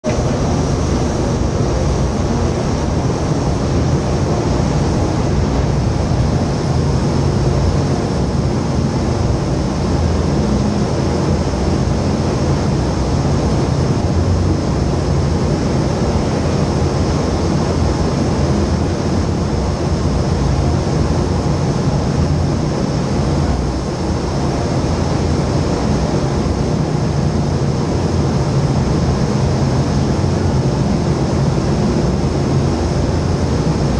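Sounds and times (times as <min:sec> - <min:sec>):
wind tunnel fans rushing air: 0:00.0 - 0:33.9.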